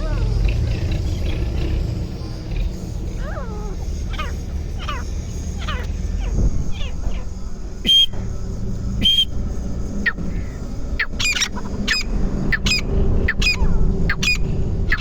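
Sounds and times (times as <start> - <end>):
francolin calling: 0.0 - 15.0.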